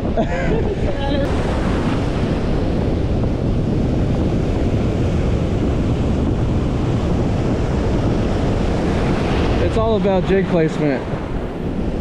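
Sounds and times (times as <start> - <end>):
wind buffeting microphone: 0.0 - 12.0
surf washing up sand: 0.5 - 12.0.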